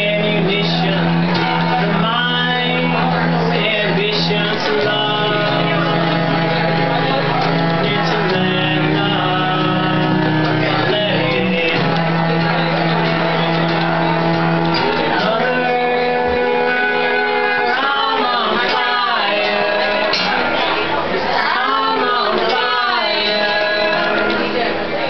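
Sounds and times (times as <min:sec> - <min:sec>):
man and woman singing: 0:00.0 - 0:13.5, 0:14.8 - 0:25.0
bowed cello long notes: 0:00.0 - 0:24.7
acoustic guitar strumming: 0:00.0 - 0:25.0.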